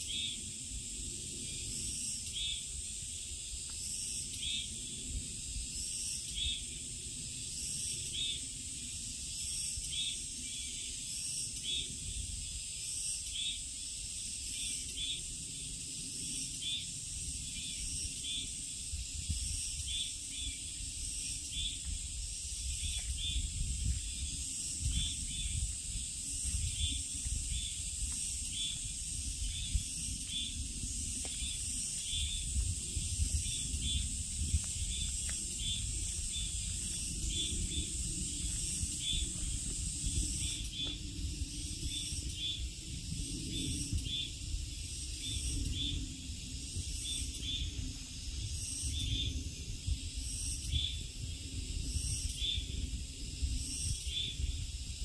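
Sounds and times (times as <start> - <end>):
insect chirp: 0.0 - 55.0
insects hissing: 0.0 - 55.0.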